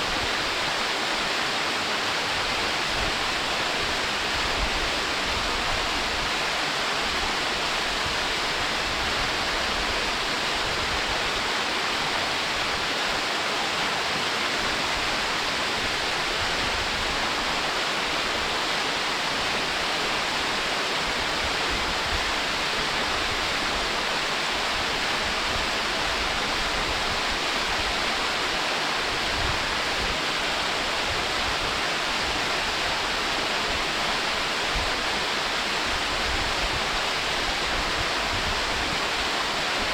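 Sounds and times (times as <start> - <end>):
waterfall rushing over rock: 0.0 - 39.9.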